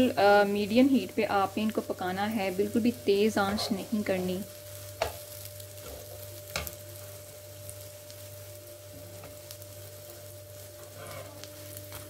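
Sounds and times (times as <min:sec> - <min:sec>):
pancakes sizzling in pan: 0:00.0 - 0:12.0.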